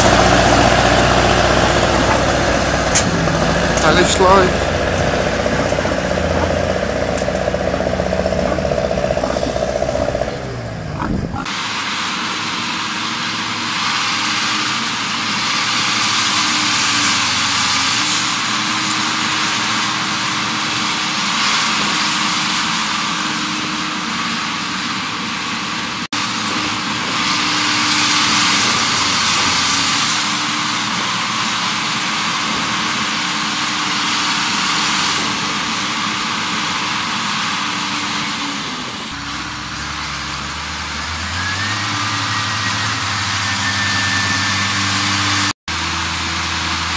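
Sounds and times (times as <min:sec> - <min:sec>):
tractor engines running: 0:00.0 - 0:46.9.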